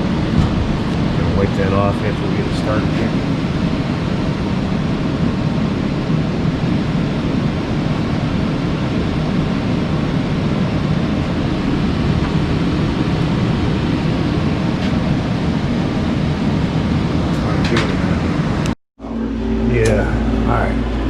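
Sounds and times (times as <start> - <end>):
furnace fan rush of air: 0.0 - 21.0.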